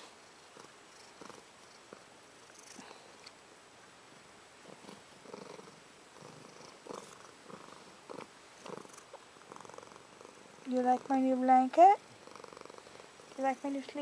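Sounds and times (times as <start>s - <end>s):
soft pet purring: 0.0s - 3.3s, 4.2s - 14.0s.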